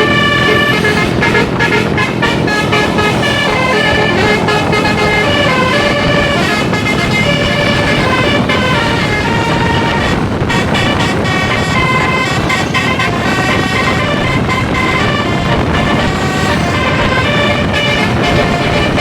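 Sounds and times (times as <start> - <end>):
multi-tone air horn tune: 0.0 - 19.0
road and engine noise: 0.0 - 19.0.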